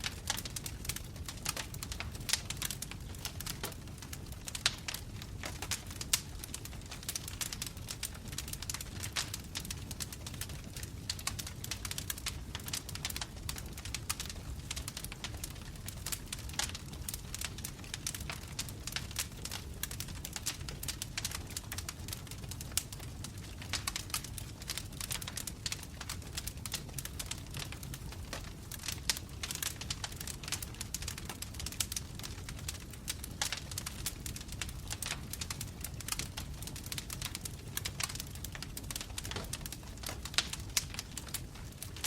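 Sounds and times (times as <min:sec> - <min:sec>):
flames rumbling: 0:00.0 - 0:42.0
logs crackling and popping: 0:00.0 - 0:42.0.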